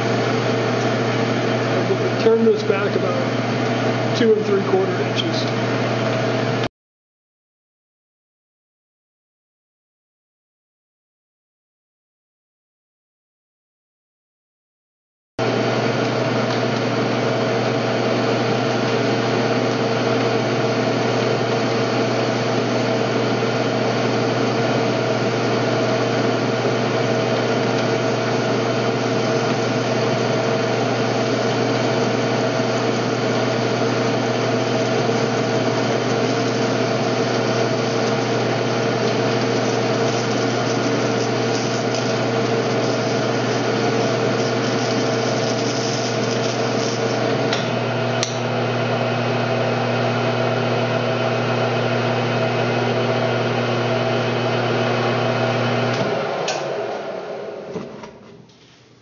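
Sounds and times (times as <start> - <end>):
metal lathe humming: 0.0 - 6.7, 15.4 - 57.8.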